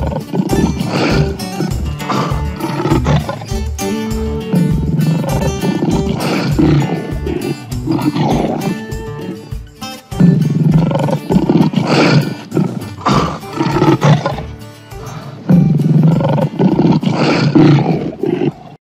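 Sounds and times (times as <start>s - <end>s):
lion roaring: 0.0s - 3.5s, 4.4s - 9.4s, 10.3s - 18.8s
background music: 0.0s - 18.7s.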